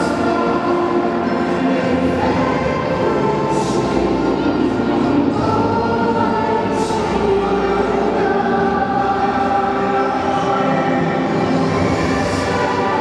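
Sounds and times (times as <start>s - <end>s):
choir singing long held notes: 0.0s - 13.0s.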